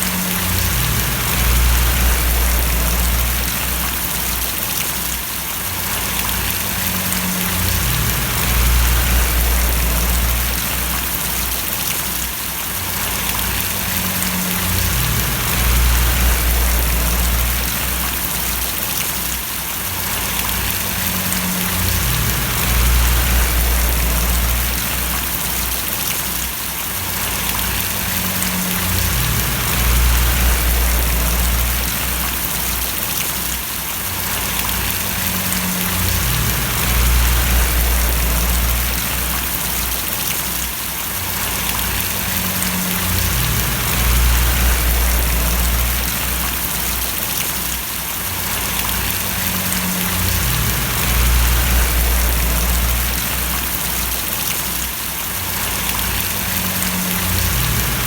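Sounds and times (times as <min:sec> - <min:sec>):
low rumble: 0:00.0 - 0:04.4, 0:06.2 - 0:11.8, 0:13.0 - 0:18.7, 0:20.3 - 0:26.0, 0:27.2 - 0:33.0, 0:34.5 - 0:40.3, 0:41.4 - 0:47.2, 0:48.7 - 0:54.5, 0:55.8 - 0:58.0
steady rain splashing: 0:00.0 - 0:58.0.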